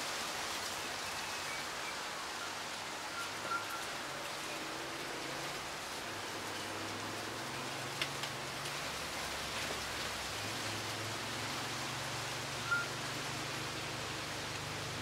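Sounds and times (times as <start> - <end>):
wind rustling leaves: 0.0 - 15.0.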